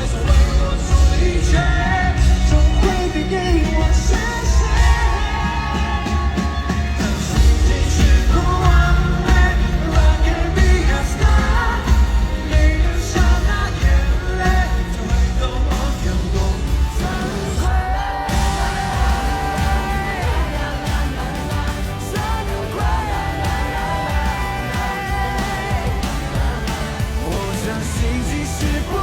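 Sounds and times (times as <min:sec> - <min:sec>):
pop song with vocal: 0:00.0 - 0:29.0
steady bass beat: 0:00.0 - 0:29.0.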